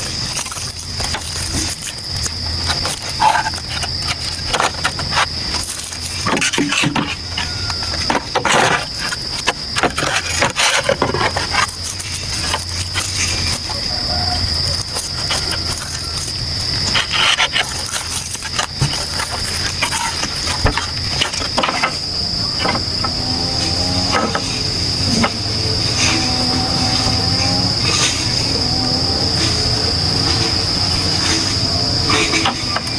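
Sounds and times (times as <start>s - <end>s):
handling clicks and knocks: 0.0s - 28.4s
insects droning: 0.0s - 32.9s.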